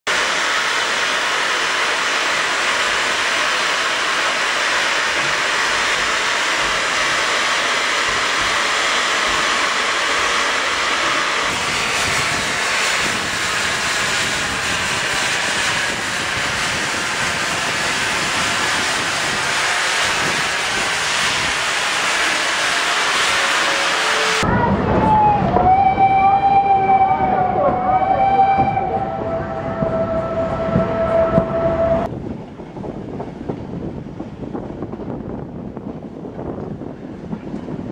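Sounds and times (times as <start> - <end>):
steam locomotive venting steam: 0.1 - 24.4, 25.7 - 33.7.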